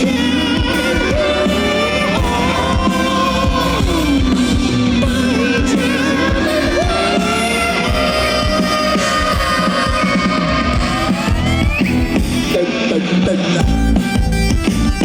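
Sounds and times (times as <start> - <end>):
sustained sliding notes: 0.0 - 12.5
live rock band playing: 0.0 - 15.0.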